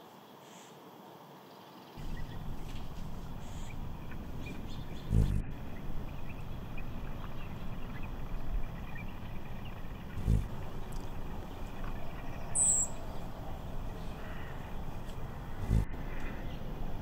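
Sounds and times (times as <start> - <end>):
bird chirps: 1.9 - 16.7
wind rumble on microphone: 2.0 - 17.0.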